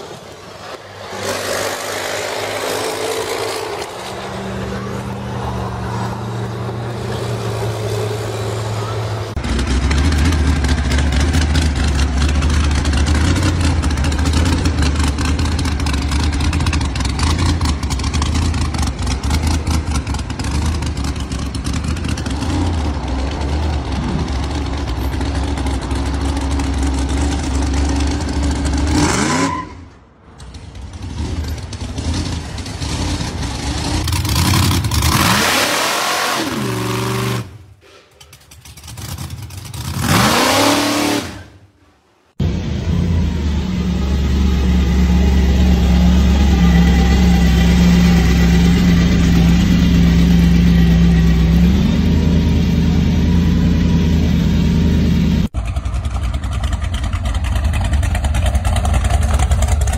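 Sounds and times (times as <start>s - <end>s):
diesel engine droning: 0.0s - 41.7s, 42.4s - 59.9s
hot rod engine revving: 0.7s - 29.6s, 31.2s - 37.6s, 38.6s - 41.5s, 42.4s - 59.9s.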